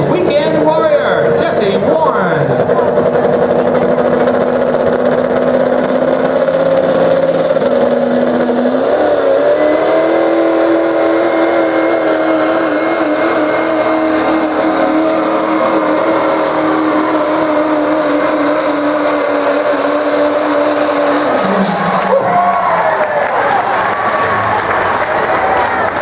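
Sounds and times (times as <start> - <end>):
diesel truck engine at full throttle: 0.0 - 26.0.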